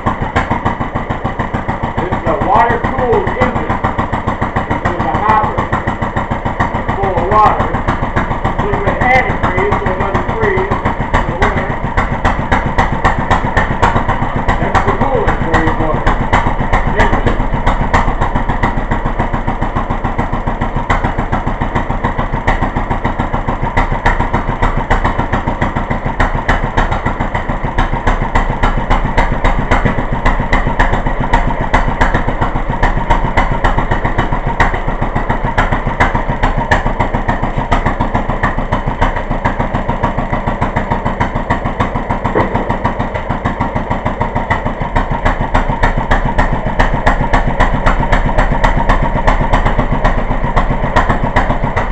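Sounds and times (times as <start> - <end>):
stationary engine running: 0.0 - 51.9.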